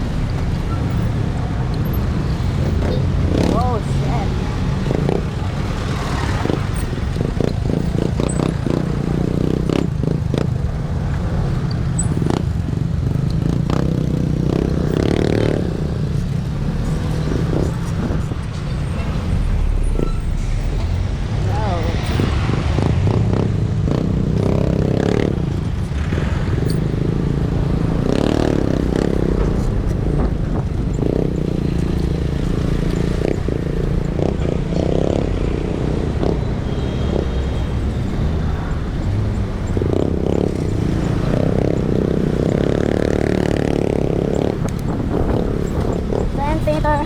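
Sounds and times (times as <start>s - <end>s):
traffic noise: 0.0s - 47.0s
vehicles passing: 0.0s - 47.0s.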